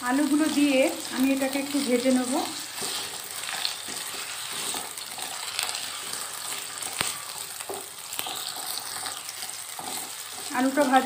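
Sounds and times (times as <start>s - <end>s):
potato wedges sizzling in oil: 0.0s - 11.0s
spatula scraping and tapping pan: 2.0s - 11.0s.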